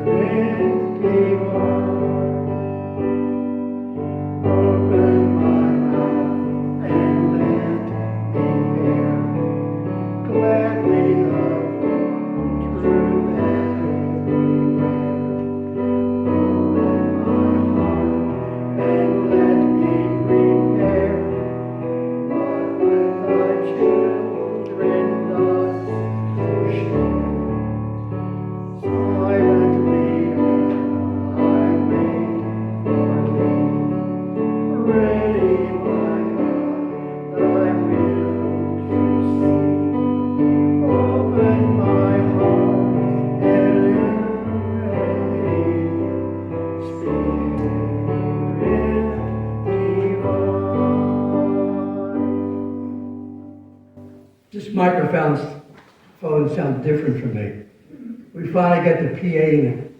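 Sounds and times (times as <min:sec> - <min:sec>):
piano playing slow chords: 0:00.0 - 0:54.6.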